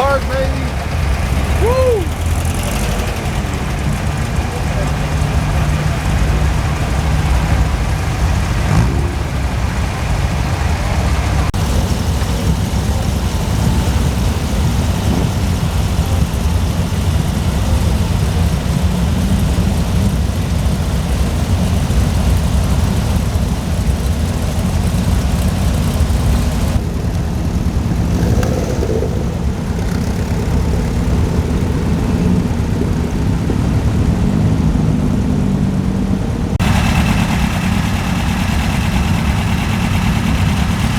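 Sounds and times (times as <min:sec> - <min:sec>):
car engines running: 0:00.0 - 0:40.9.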